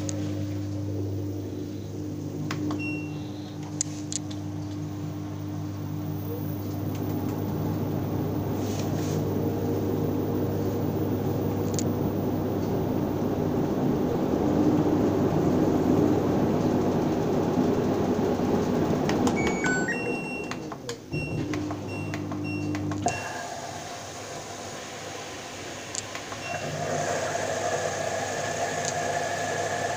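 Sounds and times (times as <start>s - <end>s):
washing machine motor humming: 0.0s - 29.9s.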